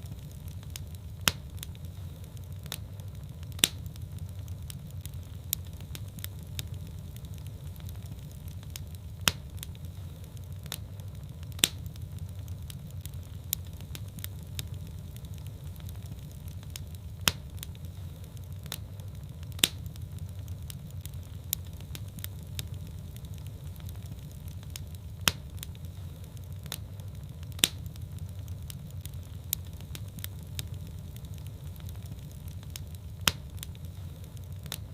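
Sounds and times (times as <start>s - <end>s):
fire crackling and popping: 0.0s - 34.9s
fire flames rumbling: 0.0s - 34.9s.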